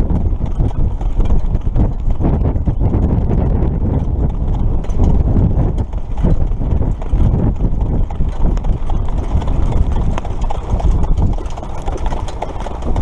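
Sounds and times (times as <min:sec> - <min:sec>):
hooves on dirt track: 0:00.0 - 0:13.0.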